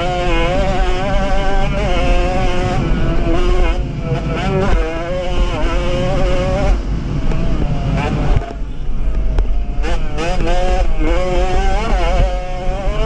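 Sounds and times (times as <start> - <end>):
moped engine revving: 0.0 - 13.0
wind buffeting microphone: 0.0 - 13.0.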